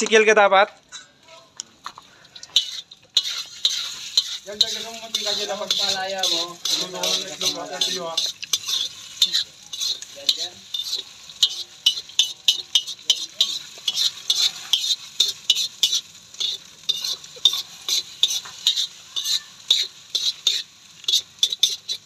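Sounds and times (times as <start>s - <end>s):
eggs sizzling: 0.8s - 22.0s
spatula scraping a wok: 2.0s - 22.0s.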